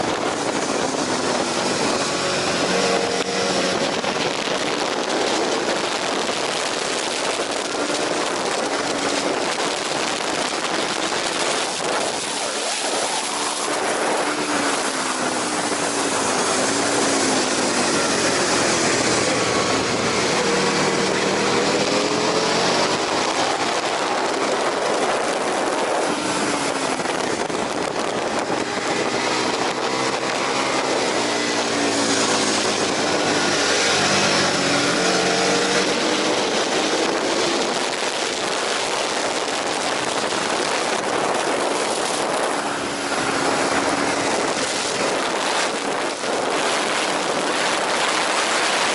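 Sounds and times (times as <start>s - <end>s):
motorcycle engine revving: 0.0s - 48.9s
wind rushing: 0.0s - 48.9s.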